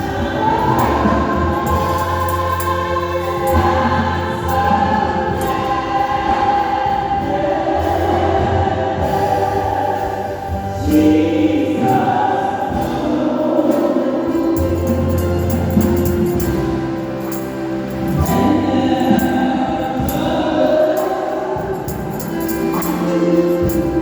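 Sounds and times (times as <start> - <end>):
choir singing gospel: 0.0 - 24.0.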